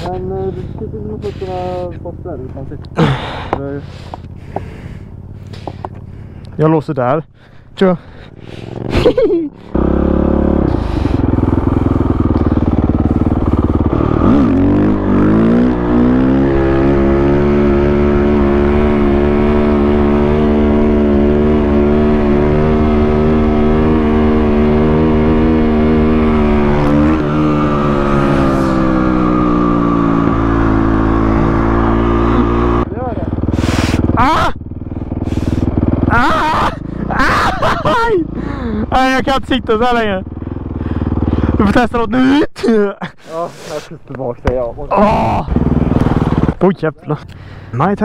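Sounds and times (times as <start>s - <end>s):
motorcycle engine accelerating: 0.0s - 42.4s, 44.0s - 48.0s.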